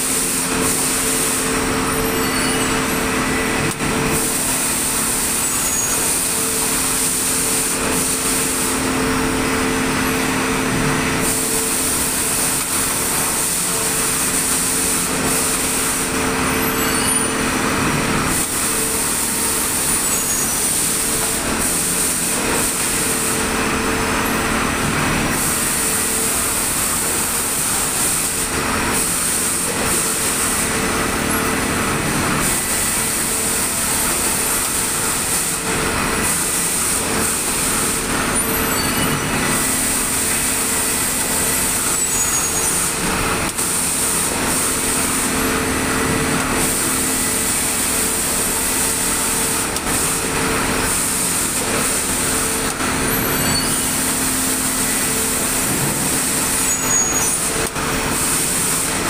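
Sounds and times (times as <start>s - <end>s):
machinery humming: 0.1s - 59.0s.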